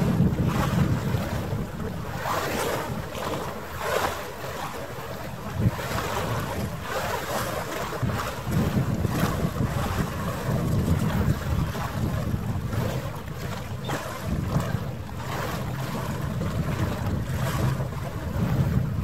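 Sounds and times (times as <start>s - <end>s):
water lapping and splashing: 0.0s - 19.0s
wind buffeting microphone: 0.0s - 19.0s.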